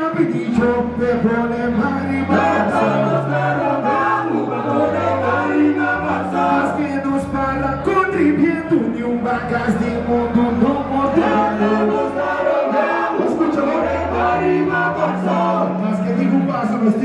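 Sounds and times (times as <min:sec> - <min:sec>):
bass line: 0:00.0 - 0:17.0
singers singing together: 0:00.0 - 0:17.0.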